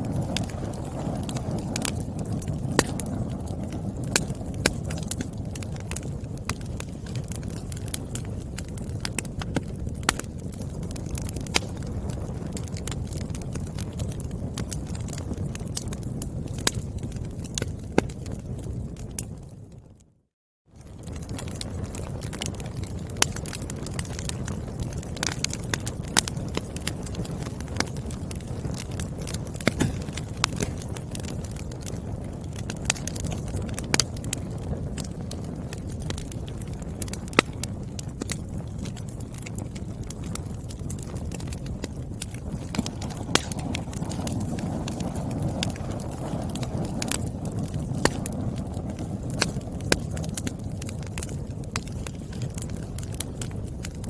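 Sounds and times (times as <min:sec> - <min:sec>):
wood fire crackling: 0:00.0 - 0:20.1, 0:20.8 - 0:54.0
low rumble of flames: 0:00.0 - 0:54.0.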